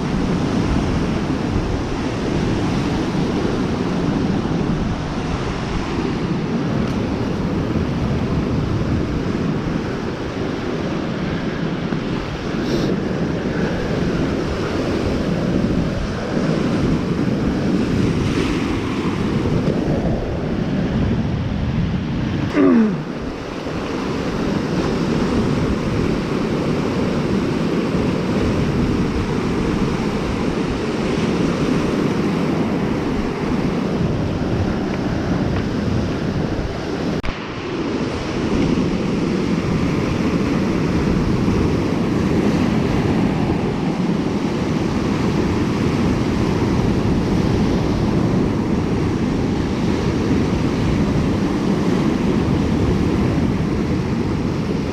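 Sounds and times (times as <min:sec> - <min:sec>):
waves rushing on shore: 0:00.0 - 0:54.9
wind on microphone: 0:00.0 - 0:54.9.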